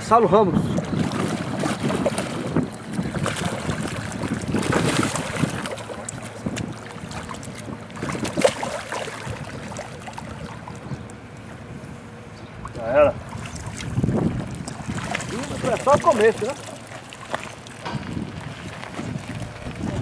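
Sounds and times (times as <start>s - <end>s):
fish splashing in water: 0.7s - 11.4s, 12.6s - 20.0s.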